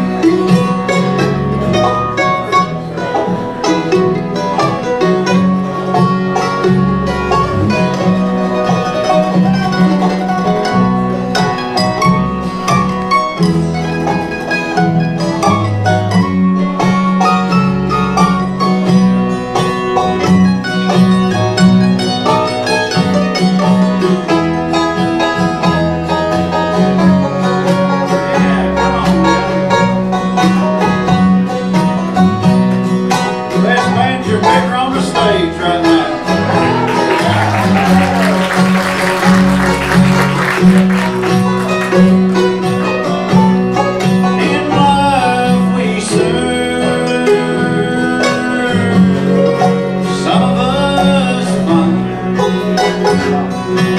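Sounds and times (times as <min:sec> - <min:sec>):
banjo picking: 0:00.0 - 0:53.9
guitar picking: 0:00.0 - 0:53.9
steady bass: 0:00.0 - 0:53.9.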